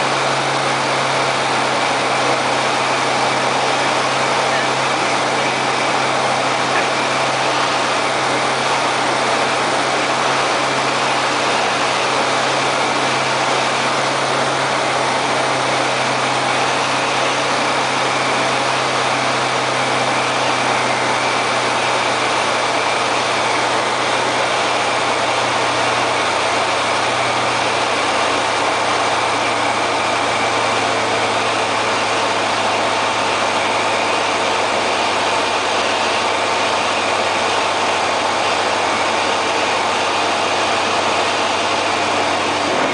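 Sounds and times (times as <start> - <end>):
aircraft engine and propeller: 0.0 - 42.9.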